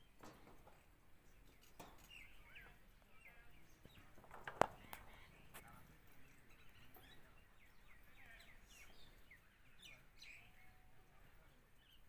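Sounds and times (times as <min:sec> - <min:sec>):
faint small birds chirping: 0:00.0 - 0:12.0.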